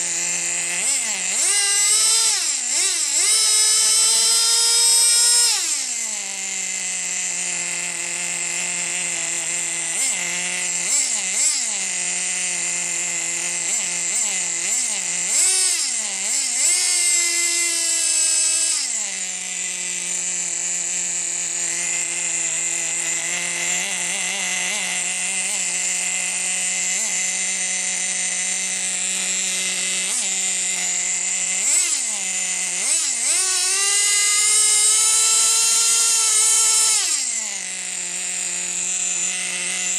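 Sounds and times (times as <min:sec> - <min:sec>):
small rc engine revving: 0:00.0 - 0:39.9.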